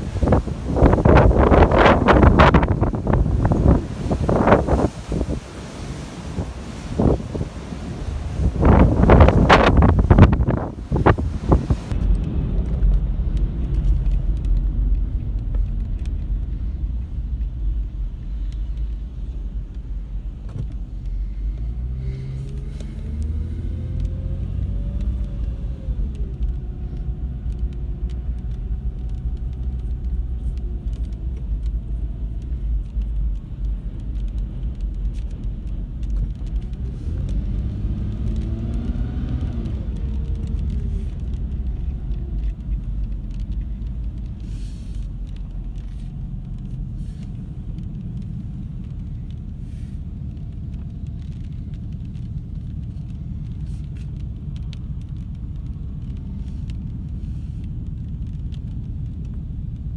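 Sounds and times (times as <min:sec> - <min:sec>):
motor vehicle engine rumbling: 0:00.0 - 0:59.9.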